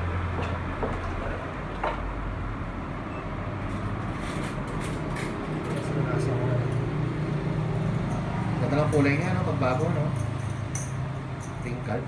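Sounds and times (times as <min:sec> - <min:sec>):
passing street traffic: 0:00.0 - 0:12.0.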